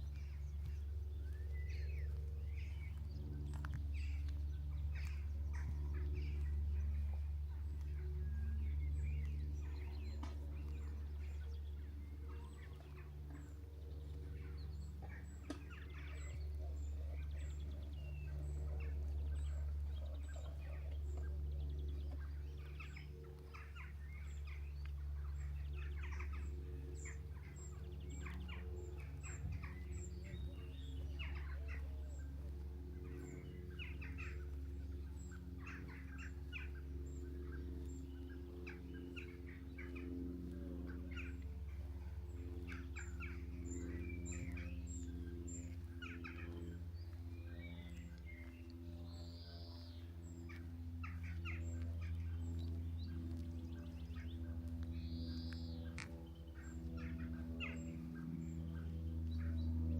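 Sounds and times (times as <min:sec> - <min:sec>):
birds calling and singing: 0:00.0 - 0:59.9
low rumble: 0:00.0 - 0:59.9.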